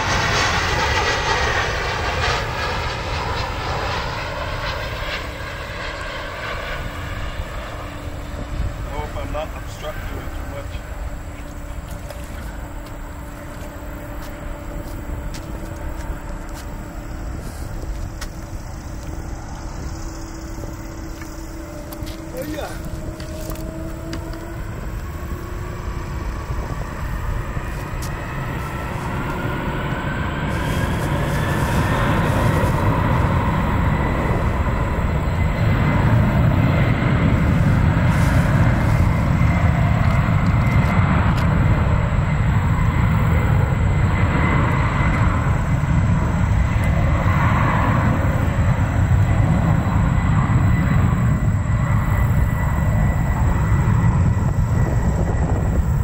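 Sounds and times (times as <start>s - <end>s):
jet engine low rumble: 0.0s - 56.0s
jet engine whine: 0.0s - 56.0s.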